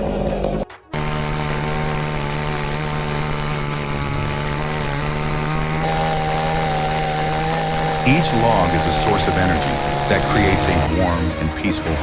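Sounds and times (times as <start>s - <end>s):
chainsaw engine running: 0.9s - 12.0s.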